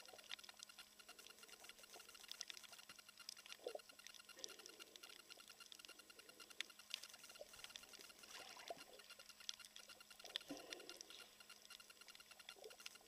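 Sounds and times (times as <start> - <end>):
faint even ticking: 0.0 - 13.0
underwater crackle of clicks: 0.0 - 13.0
water rustle: 0.0 - 13.0.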